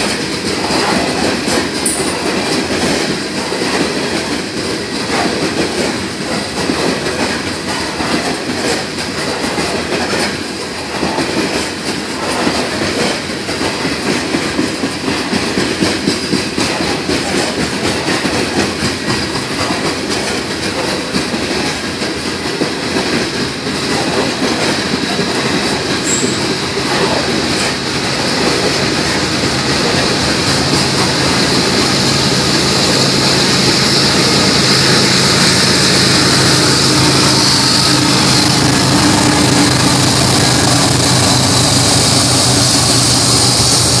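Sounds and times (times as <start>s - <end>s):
steel wheels clattering on rails: 0.0s - 44.0s.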